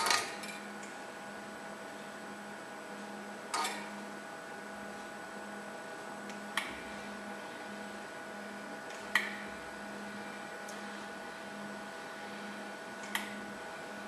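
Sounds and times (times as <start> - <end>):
soldering station electrical hum: 0.0 - 14.0.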